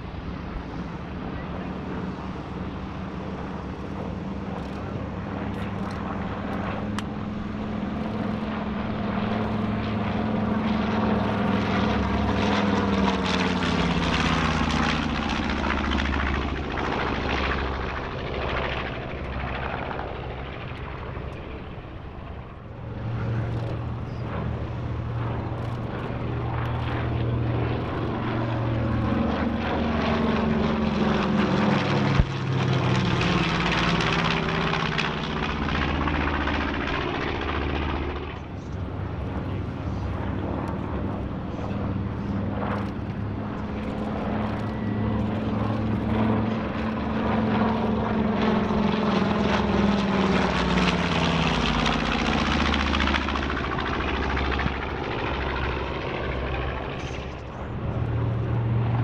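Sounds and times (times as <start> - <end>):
propeller aircraft engines droning: 0.0 - 59.0.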